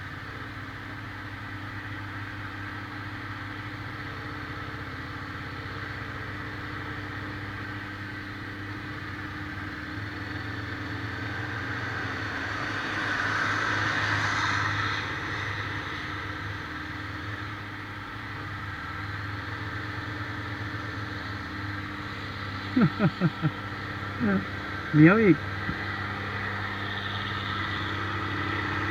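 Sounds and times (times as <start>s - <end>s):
road noise: 0.0s - 28.9s
vehicle engine running: 0.0s - 28.9s.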